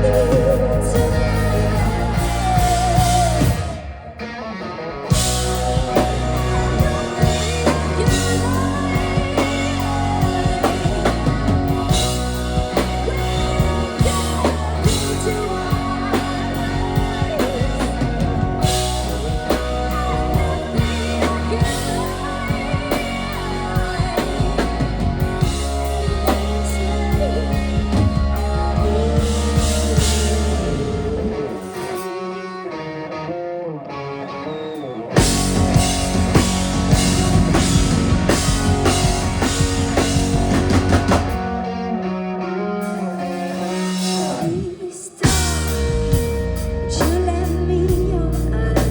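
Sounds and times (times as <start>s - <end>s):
drum kit: 0.0s - 4.4s, 5.1s - 32.2s, 35.2s - 41.8s, 42.8s - 48.9s
bass guitar: 0.0s - 33.3s, 34.1s - 48.9s
person singing: 0.0s - 33.3s, 34.1s - 48.9s
guitar: 0.0s - 48.9s.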